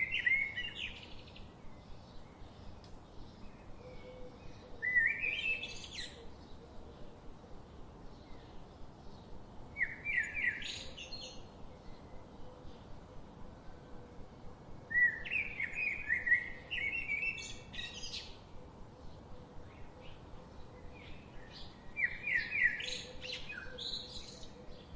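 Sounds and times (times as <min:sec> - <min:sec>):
faint steady hiss: 0:00.0 - 0:24.9
songbird chirping: 0:00.0 - 0:24.9.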